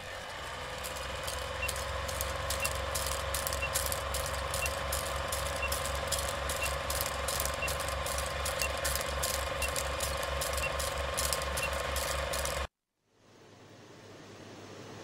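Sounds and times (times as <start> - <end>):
projector rattling with crackle: 0.0 - 12.7.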